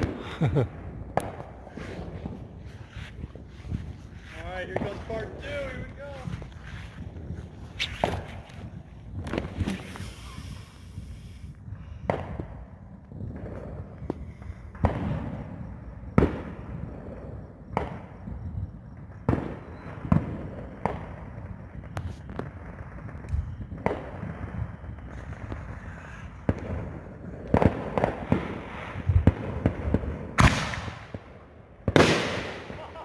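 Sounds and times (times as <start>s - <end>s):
fireworks bangs: 0.0s - 11.4s, 12.0s - 33.0s.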